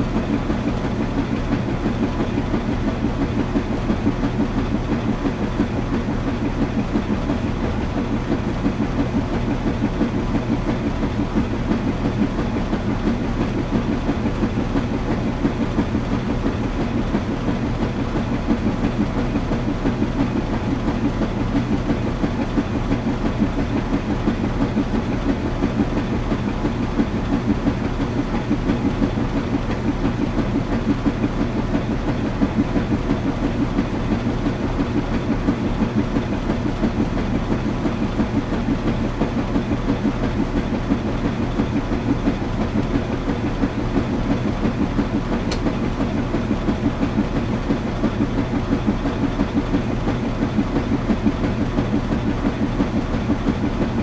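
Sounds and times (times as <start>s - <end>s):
washing machine churning: 0.0s - 54.0s.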